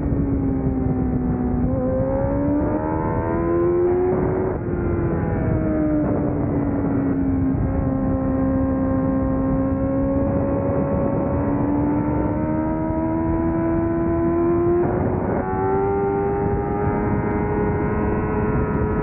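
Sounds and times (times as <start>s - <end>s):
constant rushing noise: 0.0s - 19.0s
motorcycle engine running hard: 0.0s - 19.0s.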